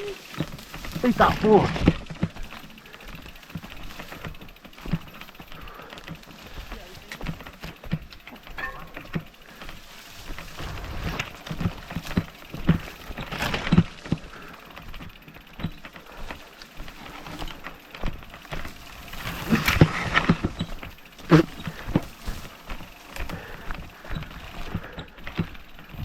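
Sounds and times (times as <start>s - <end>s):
mountain bike rattling: 0.0s - 26.0s.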